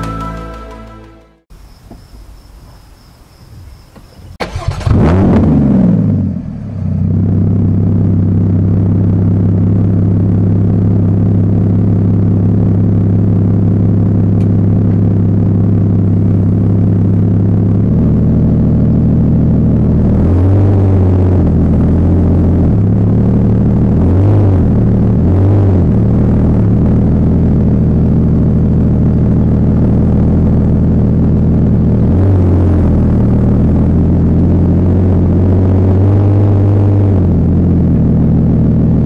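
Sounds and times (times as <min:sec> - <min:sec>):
car engine starting and idling: 0:04.0 - 0:39.0.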